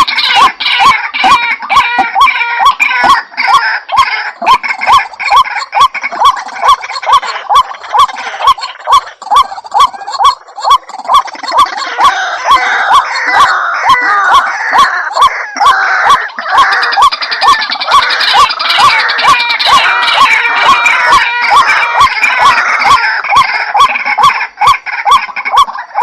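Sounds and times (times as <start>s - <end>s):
high chattering bird calls: 0.0s - 26.0s
waterhen calling: 0.0s - 26.0s.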